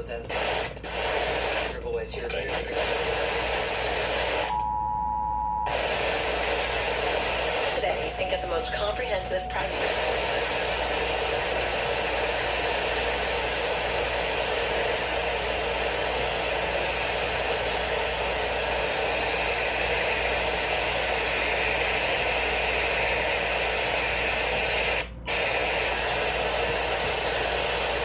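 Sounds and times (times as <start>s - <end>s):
radio static hiss: 0.0s - 4.6s, 5.7s - 28.0s.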